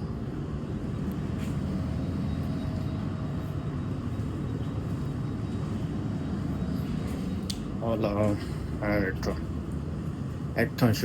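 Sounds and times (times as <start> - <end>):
train coach rumble and hum: 0.0 - 11.0.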